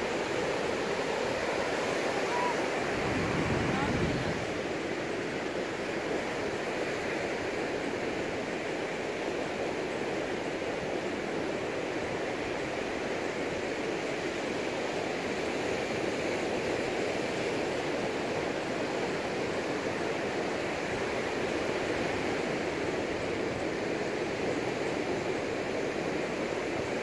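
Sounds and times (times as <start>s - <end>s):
ocean surf on beach: 0.0s - 27.0s.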